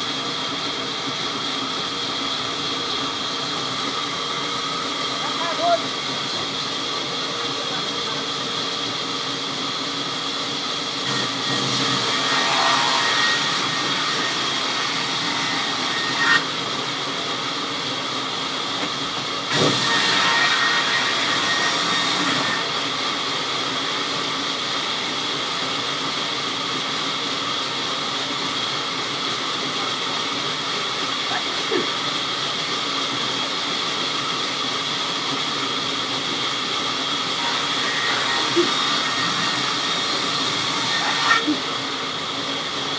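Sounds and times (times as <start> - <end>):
sawmill saw whining: 0.0 - 42.9.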